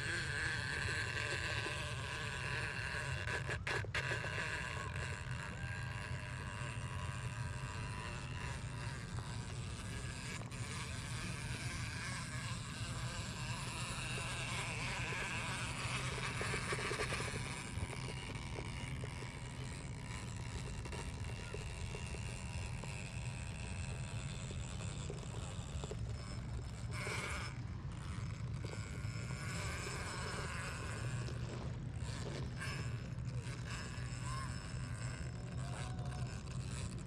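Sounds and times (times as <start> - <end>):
rc car motor whining: 0.0 - 37.0.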